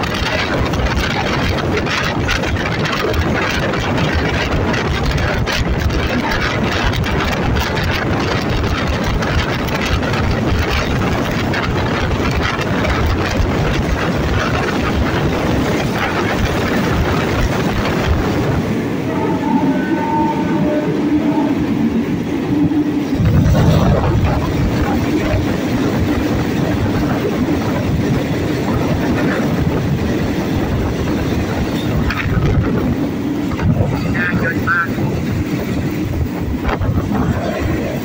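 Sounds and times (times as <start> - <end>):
wheels and carriage rattling: 0.0 - 19.9, 22.0 - 38.0
locomotive engine rumble: 0.0 - 38.0.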